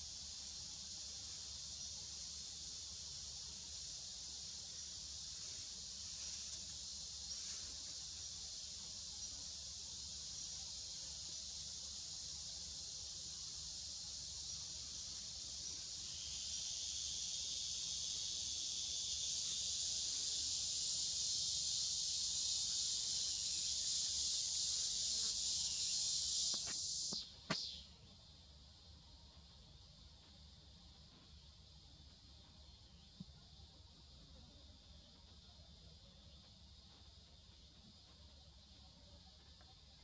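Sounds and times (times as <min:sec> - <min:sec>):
insect chorus droning: 0:00.0 - 0:40.0.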